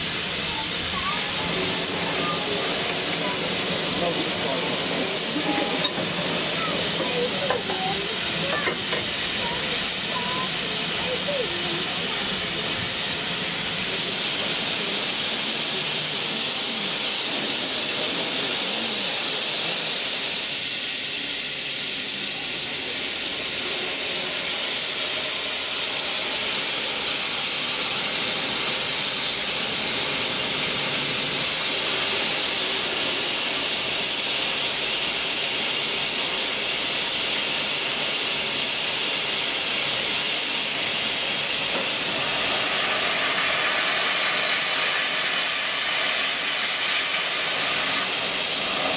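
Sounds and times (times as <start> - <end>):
steam hissing: 0.0 - 48.9.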